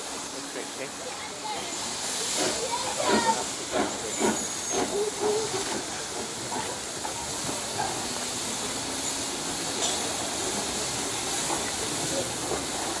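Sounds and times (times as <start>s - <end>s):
steam hissing from locomotive: 0.0s - 13.0s.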